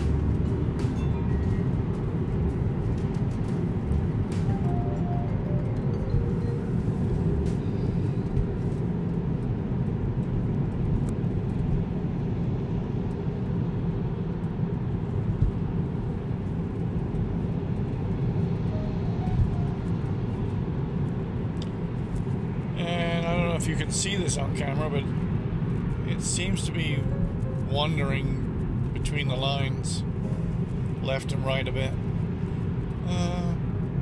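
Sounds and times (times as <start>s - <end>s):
road and tyre noise in car: 0.0s - 34.0s.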